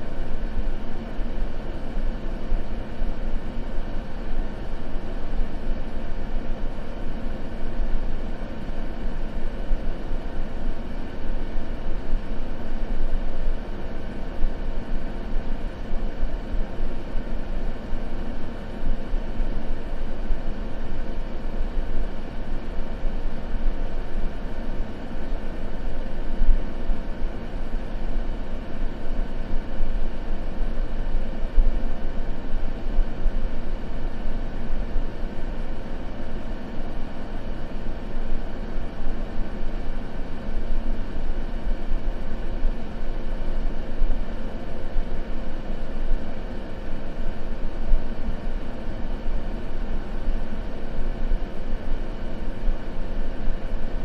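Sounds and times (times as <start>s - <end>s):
deep white noise rush: 0.0s - 54.0s
faint steady hum: 0.0s - 54.0s.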